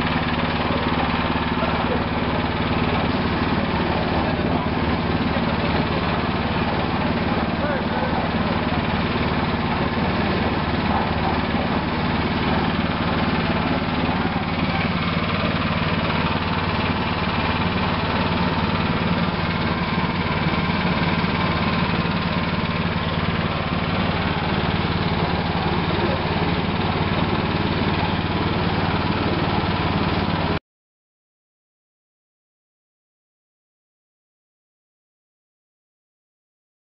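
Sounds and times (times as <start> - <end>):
concrete mixer running: 0.0 - 30.6.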